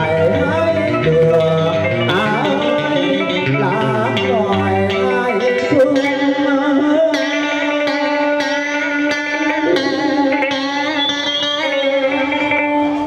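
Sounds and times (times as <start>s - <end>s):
electric guitar melody: 0.0s - 13.0s.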